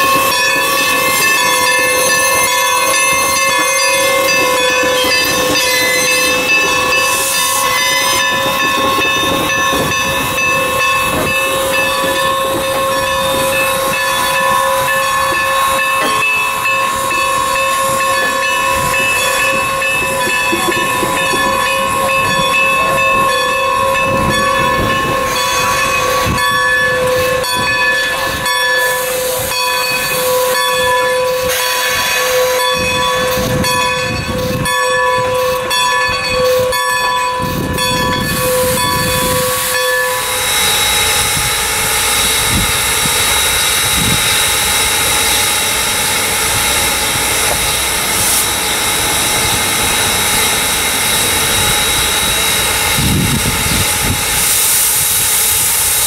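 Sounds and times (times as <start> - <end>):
steady ringing tones: 0.0 - 54.4
steam locomotive hissing steam: 0.0 - 56.0.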